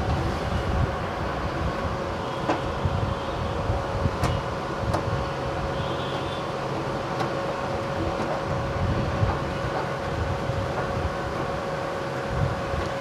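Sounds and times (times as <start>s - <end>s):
mechanical whir and hum: 0.0s - 13.0s.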